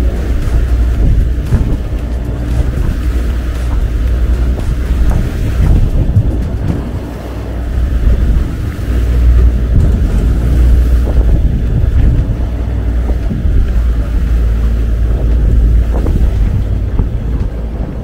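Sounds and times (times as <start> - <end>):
water wash: 0.0 - 18.0
wind buffeting microphone: 0.0 - 18.0.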